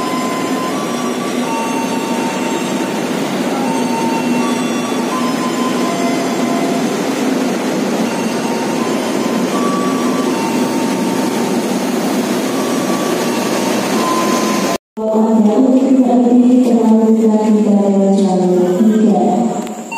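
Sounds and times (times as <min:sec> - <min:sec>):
train engine droning: 0:00.0 - 0:19.9.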